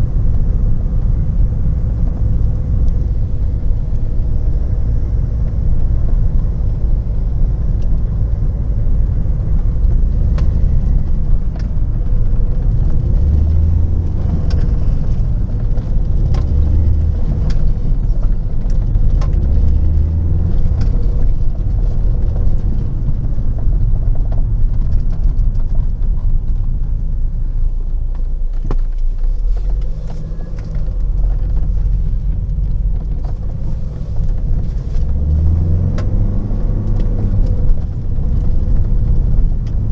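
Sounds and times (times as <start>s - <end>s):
diesel car engine and road rumble: 0.0s - 39.9s.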